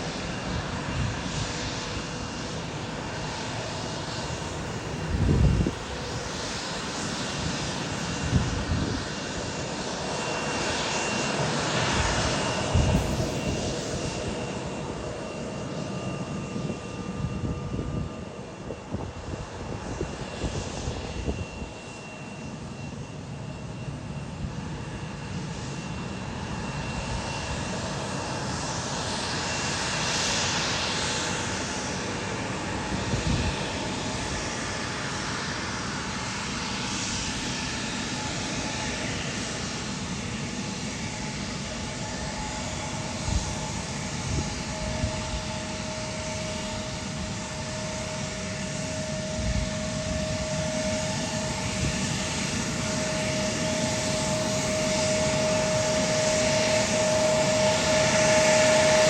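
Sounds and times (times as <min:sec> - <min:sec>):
jet engines roaring: 0:00.0 - 0:59.0
thin engine whine: 0:00.0 - 0:59.0.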